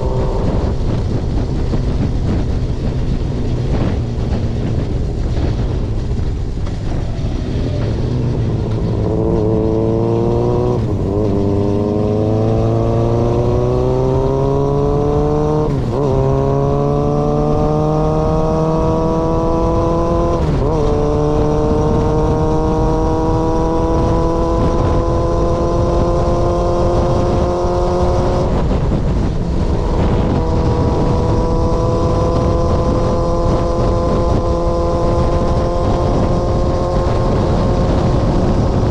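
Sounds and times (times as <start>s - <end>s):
motorcycle engine accelerating: 0.0s - 38.9s
wind noise rumbling: 0.0s - 38.9s.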